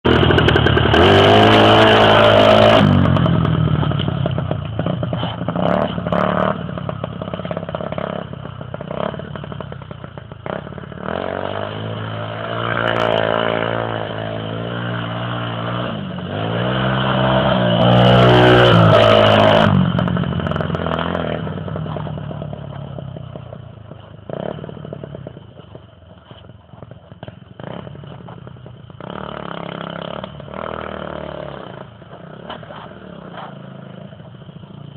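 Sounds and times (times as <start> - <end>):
dirt bike engine revving: 0.0 - 23.5, 24.3 - 25.4, 27.6 - 34.9.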